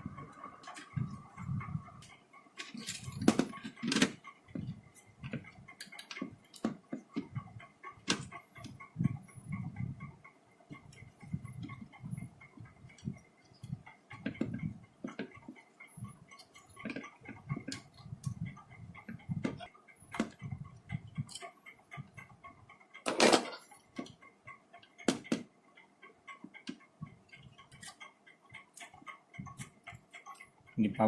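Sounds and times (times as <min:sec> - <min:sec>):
small parts clicking and knocking: 0:00.1 - 0:31.0.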